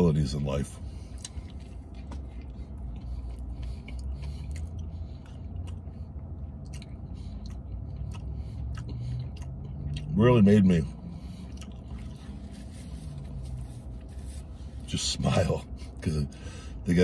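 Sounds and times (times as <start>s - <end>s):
low steady hum: 0.0s - 17.0s
man chewing with wet smacks: 0.8s - 14.9s.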